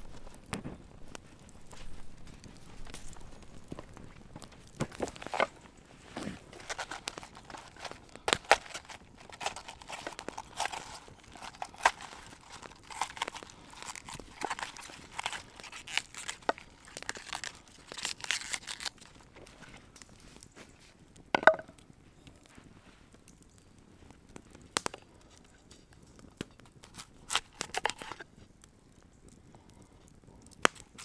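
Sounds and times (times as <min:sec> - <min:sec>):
leaves crunching and snapping: 0:00.0 - 0:20.7, 0:24.3 - 0:28.3, 0:30.6 - 0:31.0.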